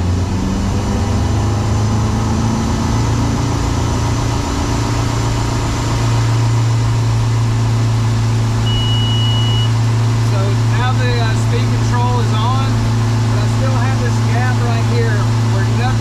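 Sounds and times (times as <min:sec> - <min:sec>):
boat engine accelerating: 0:00.0 - 0:16.0.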